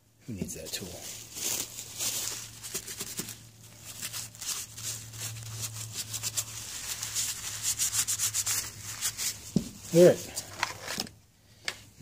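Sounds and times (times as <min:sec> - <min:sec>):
cloth rubbing on plastic: 0:00.6 - 0:10.9.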